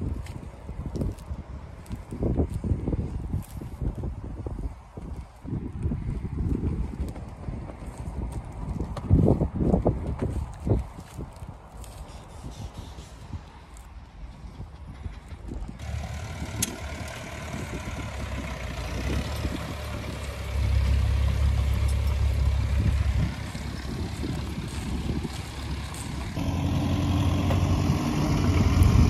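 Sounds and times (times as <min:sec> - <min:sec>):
tractor engines running: 0:00.0 - 0:29.0.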